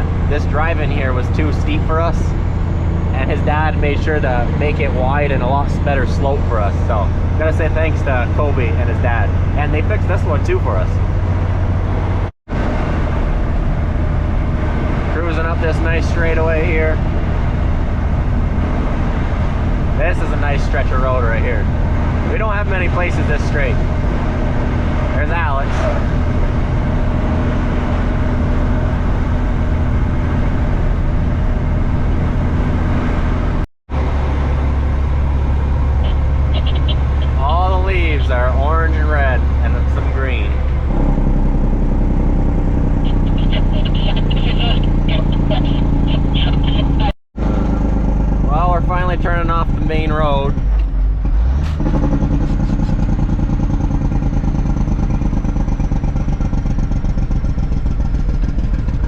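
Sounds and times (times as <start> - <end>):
diesel truck engine running: 0.0 - 59.0
road noise: 0.0 - 59.0.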